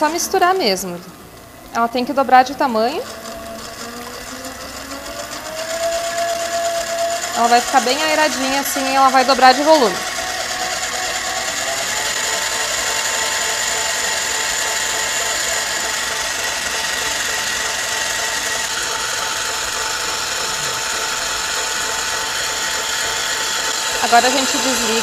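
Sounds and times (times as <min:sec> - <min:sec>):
electric stand mixer whirring: 0:00.0 - 0:25.0.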